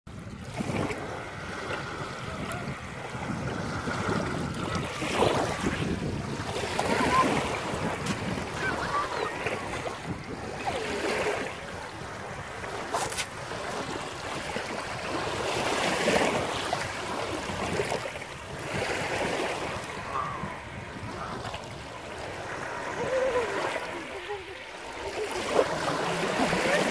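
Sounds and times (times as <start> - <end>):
sea waves washing over pebbles: 0.2 - 26.9.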